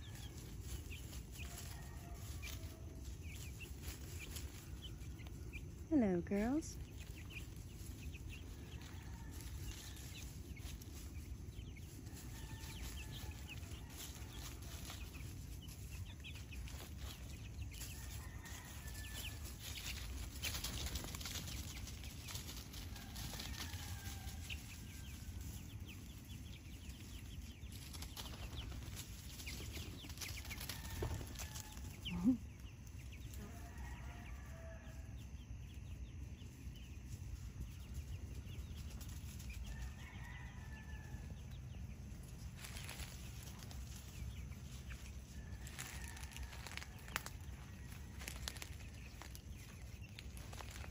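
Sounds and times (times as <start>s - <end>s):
rustling in dry leaf litter: 0.0s - 35.1s, 36.4s - 50.9s.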